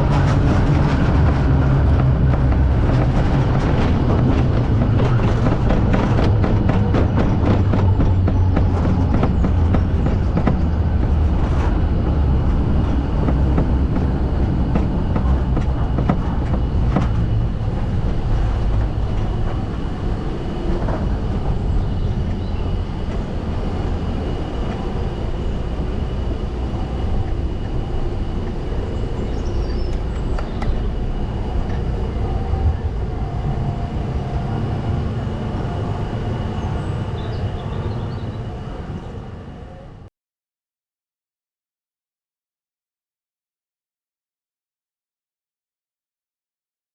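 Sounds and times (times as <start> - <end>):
wheels rumbling on rails: 0.0 - 40.1.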